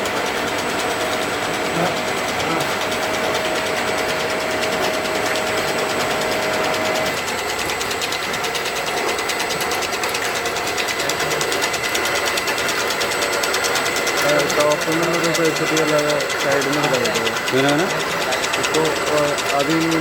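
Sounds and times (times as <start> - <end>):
three d printer whirring and ticking: 0.0 - 20.0.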